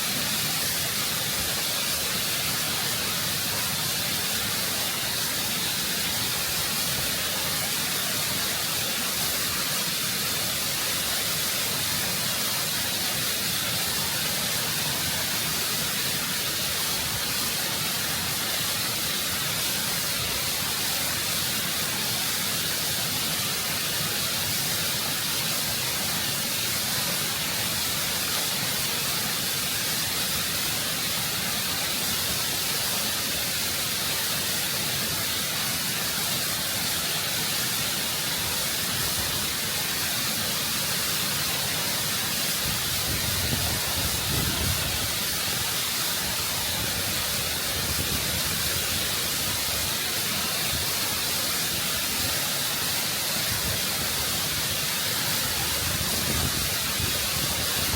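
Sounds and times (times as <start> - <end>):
waterfall rushing over rock: 0.0 - 57.9.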